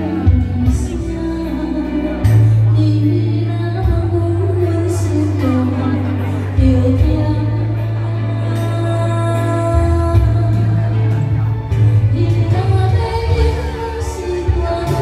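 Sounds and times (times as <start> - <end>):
backing track with bass line: 0.0 - 15.0
woman singing a slow ballad: 0.0 - 15.0.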